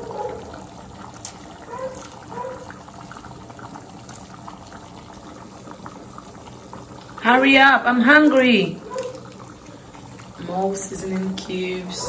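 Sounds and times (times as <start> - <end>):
porridge bubbling in a pot: 0.0 - 12.0.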